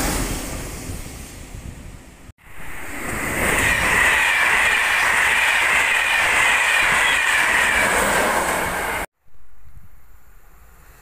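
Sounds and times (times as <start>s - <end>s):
train passing at speed: 0.0s - 9.1s
high train whine: 0.0s - 11.0s.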